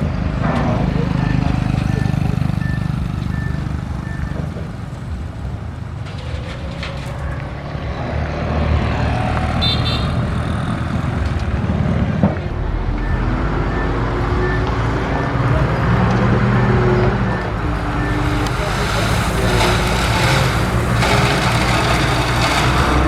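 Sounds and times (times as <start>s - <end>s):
bulldozer diesel engine running: 0.0s - 8.1s, 9.6s - 23.0s.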